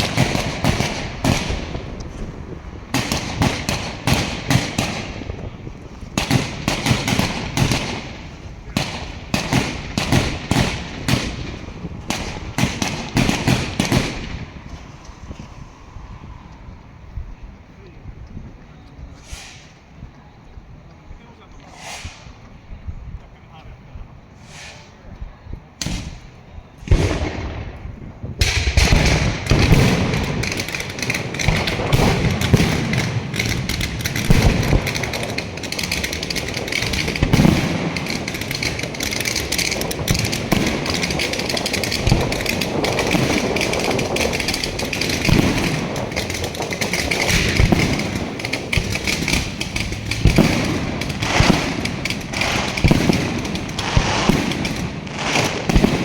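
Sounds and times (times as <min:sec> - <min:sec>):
booming firework shell bursts: 0:00.0 - 0:15.4, 0:25.8 - 0:56.0
firework bangs: 0:00.0 - 0:17.1, 0:19.1 - 0:20.0, 0:21.6 - 0:22.8, 0:25.8 - 0:56.0
fireworks crackling: 0:00.0 - 0:18.3, 0:19.0 - 0:22.9, 0:25.8 - 0:56.0.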